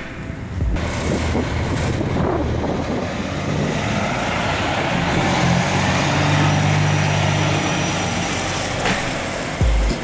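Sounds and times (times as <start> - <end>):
truck diesel engine pulling away: 0.2 - 10.0.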